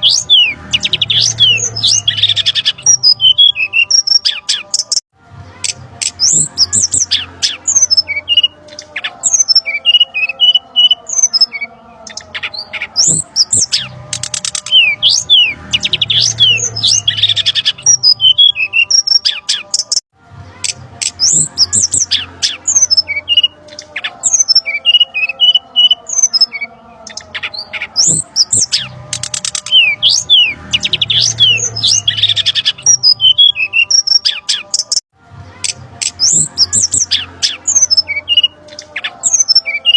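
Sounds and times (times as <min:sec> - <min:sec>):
small birds chirping and whistling: 0:00.0 - 0:05.0, 0:05.6 - 0:20.0, 0:20.6 - 0:35.0, 0:35.6 - 0:39.9.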